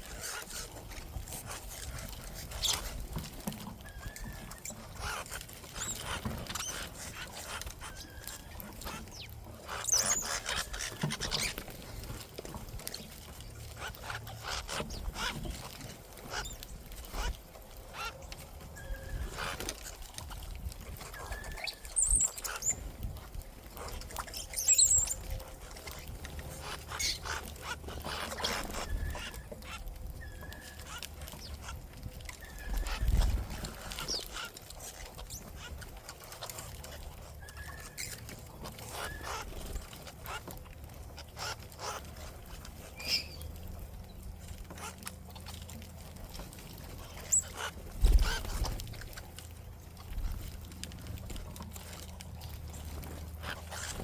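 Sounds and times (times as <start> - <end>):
birds pecking and fluttering: 0.0 - 54.0
small birds chirping: 0.0 - 54.0.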